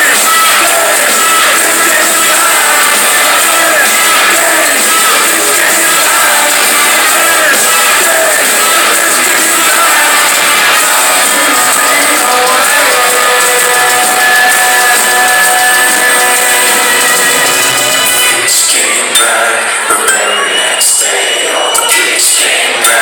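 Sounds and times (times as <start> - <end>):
rock band playing live: 0.0 - 20.8
drums: 0.0 - 23.0.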